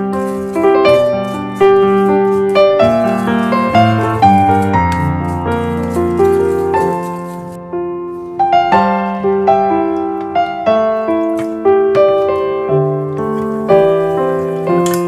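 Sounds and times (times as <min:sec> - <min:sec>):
piano tune: 0:00.0 - 0:15.0.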